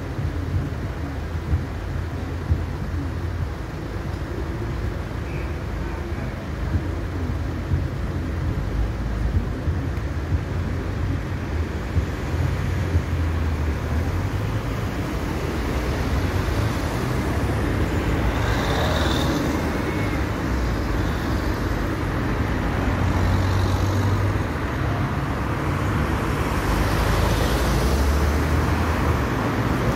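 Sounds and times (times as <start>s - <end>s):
car engines idling and crawling: 0.0s - 29.9s.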